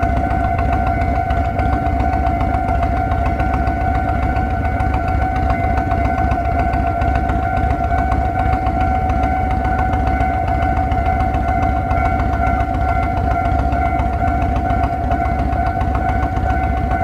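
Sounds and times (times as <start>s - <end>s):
level crossing alarm bell: 0.0s - 17.0s.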